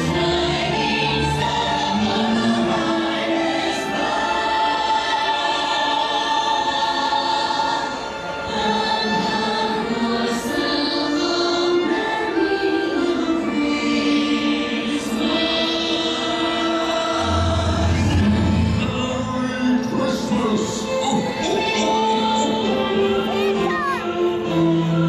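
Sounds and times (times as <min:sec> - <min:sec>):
choir singing held notes: 0:00.0 - 0:23.4, 0:24.0 - 0:25.0.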